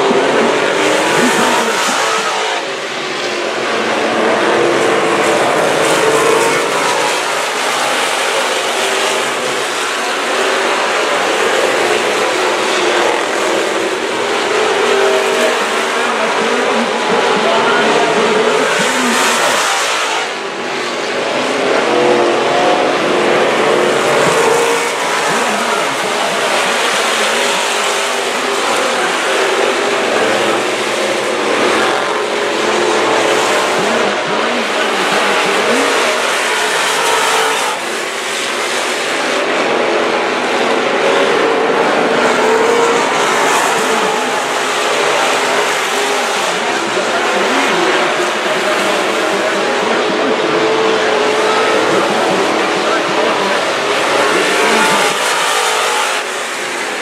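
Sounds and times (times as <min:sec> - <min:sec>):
race car engines: 0:00.0 - 0:57.0.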